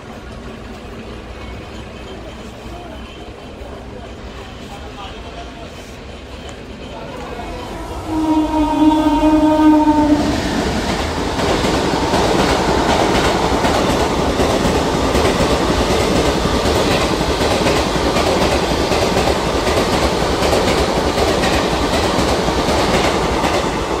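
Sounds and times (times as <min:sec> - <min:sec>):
train wheels rushing on rail: 0:00.0 - 0:24.0.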